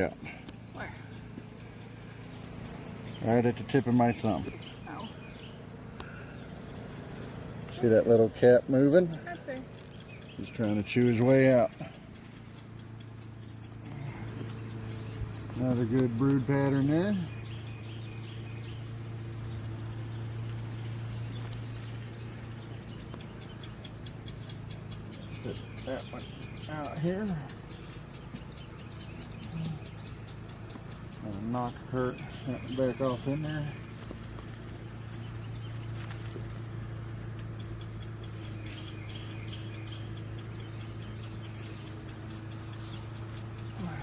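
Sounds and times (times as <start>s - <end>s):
bees buzzing: 0.0s - 44.0s
honeybees humming: 0.0s - 44.0s
rapid high ticking: 0.0s - 44.0s.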